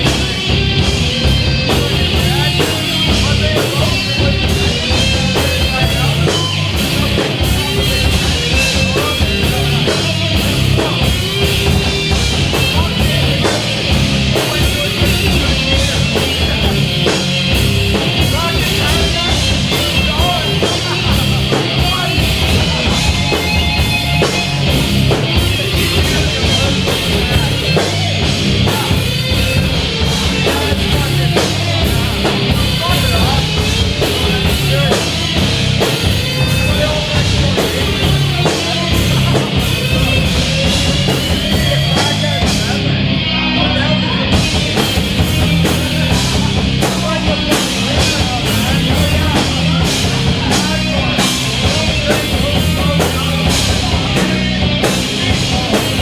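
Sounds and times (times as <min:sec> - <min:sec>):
bass guitar: 0:00.0 - 0:56.0
distorted electric guitar: 0:00.0 - 0:56.0
drum kit beat: 0:00.0 - 0:56.0.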